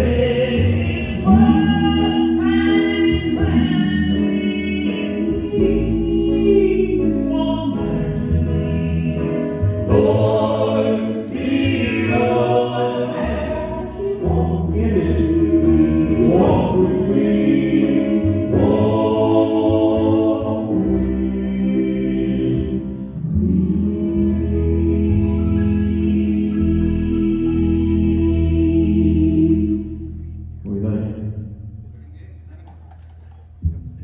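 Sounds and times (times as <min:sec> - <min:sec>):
voices singing in harmony: 0:00.0 - 0:31.4
steady low bass: 0:00.0 - 0:32.6.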